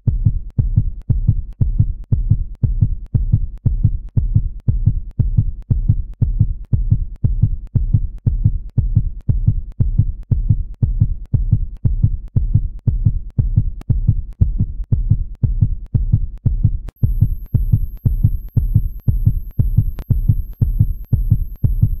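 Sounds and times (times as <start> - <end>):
heartbeat thumps: 0.0 - 22.0.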